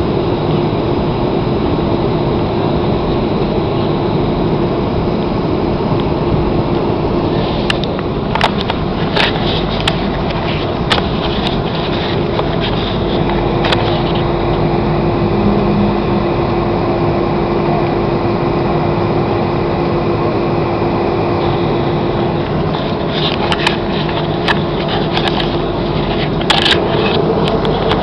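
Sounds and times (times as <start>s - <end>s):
airliner cabin engine noise: 0.0s - 28.0s
constant hum: 0.0s - 28.0s.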